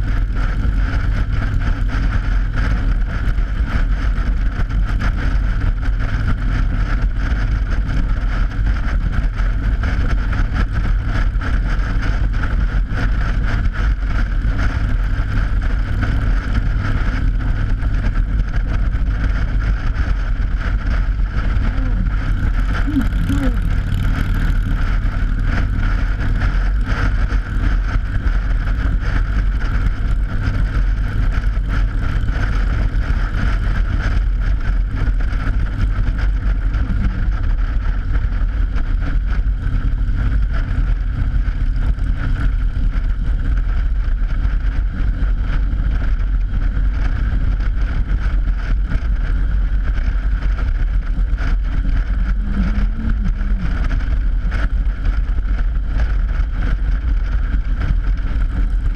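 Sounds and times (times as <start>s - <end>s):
motorcycle engine rumble: 0.0s - 58.9s
wind buffeting microphone: 0.0s - 58.9s.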